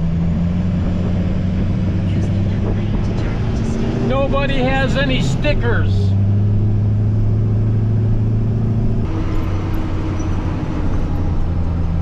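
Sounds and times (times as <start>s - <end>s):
diesel engine droning: 0.0s - 12.0s
road noise: 0.0s - 12.0s.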